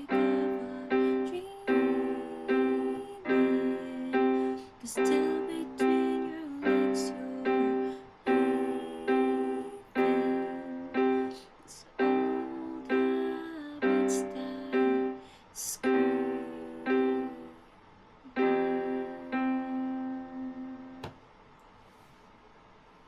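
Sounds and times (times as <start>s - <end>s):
piano playing slow chords: 0.0s - 17.6s, 18.3s - 21.1s.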